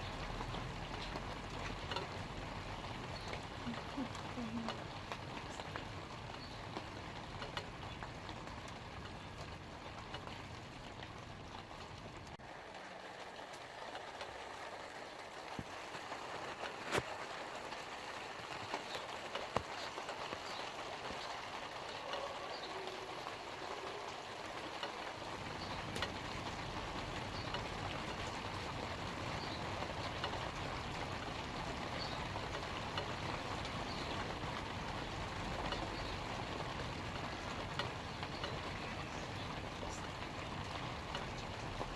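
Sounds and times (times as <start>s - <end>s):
rain pattering on leaves: 0.0s - 41.9s.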